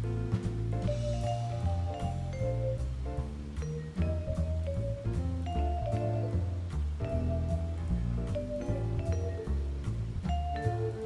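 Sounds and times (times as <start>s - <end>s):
mellow background music: 0.0s - 11.0s.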